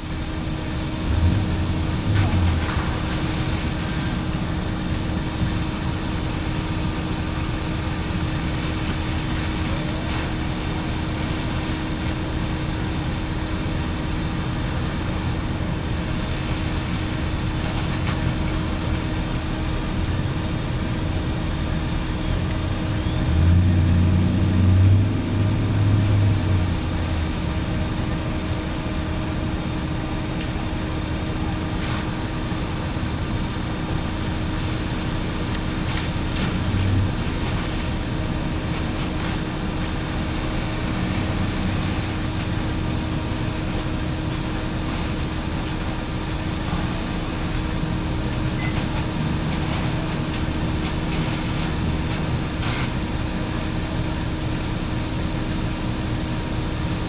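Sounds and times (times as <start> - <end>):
deeper engine rumble: 0.0 - 57.0.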